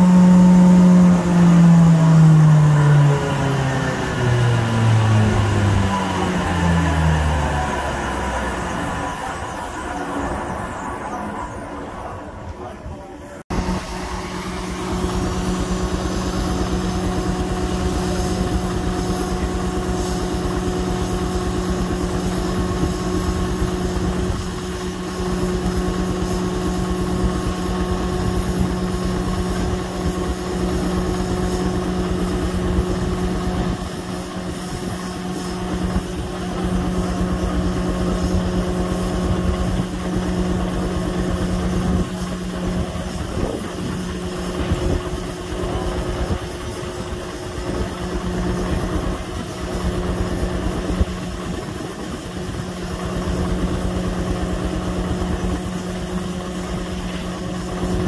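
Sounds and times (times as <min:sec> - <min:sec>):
sawmill machinery chopping beat: 0:00.0 - 0:10.9, 0:13.5 - 0:50.8
steam engine running: 0:00.0 - 0:58.0.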